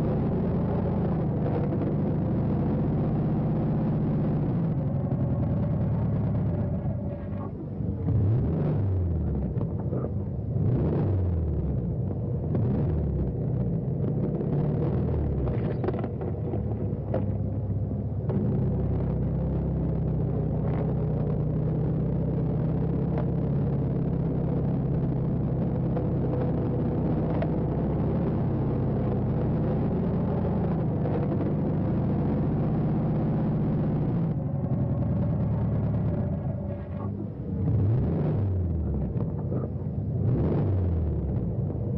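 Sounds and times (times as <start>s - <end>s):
car engine rumbling: 0.0s - 41.9s.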